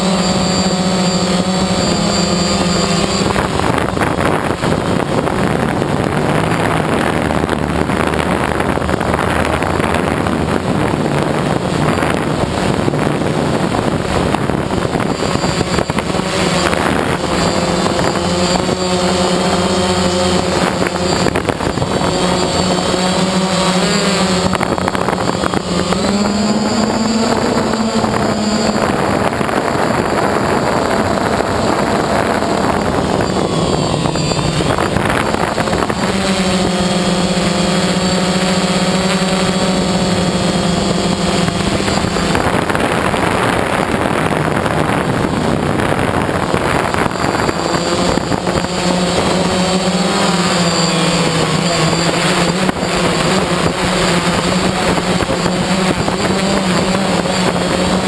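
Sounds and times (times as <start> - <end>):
drone propellers buzzing whine: 0.0 - 58.0.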